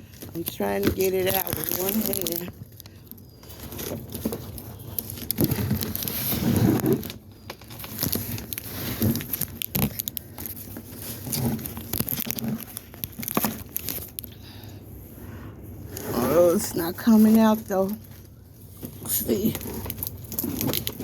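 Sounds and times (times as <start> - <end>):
cardboard and plastic rustling: 0.0 - 21.0.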